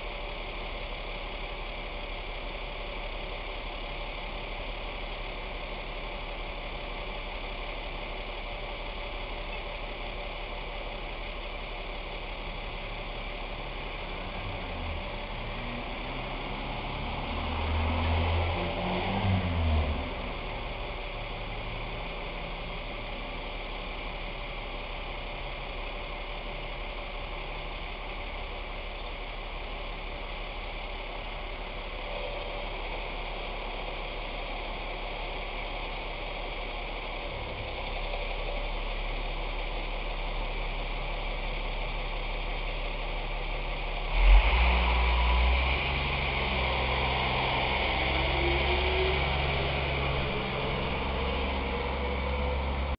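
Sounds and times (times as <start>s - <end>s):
truck engine: 0.0s - 52.9s.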